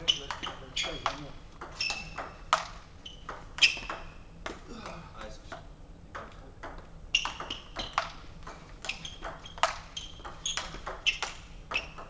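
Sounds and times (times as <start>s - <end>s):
table tennis ball clicks: 0.2s - 4.6s, 5.2s - 12.0s.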